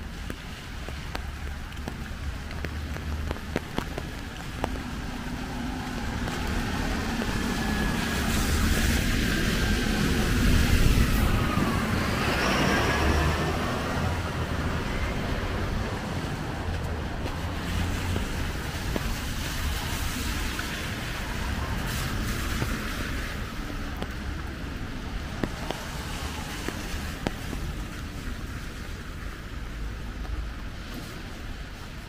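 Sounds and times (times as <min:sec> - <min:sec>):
steady rain hiss: 0:00.0 - 0:12.5, 0:13.4 - 0:32.0
traffic on wet street: 0:00.0 - 0:32.0.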